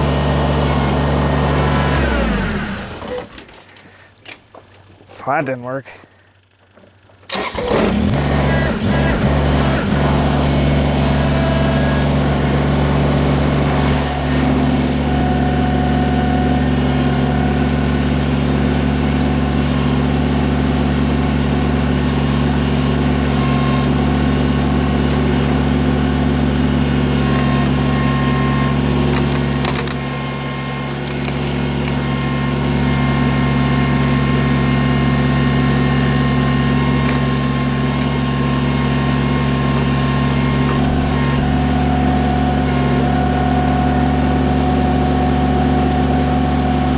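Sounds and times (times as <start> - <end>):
diesel engine starting and running: 0.0 - 4.5, 5.8 - 46.9.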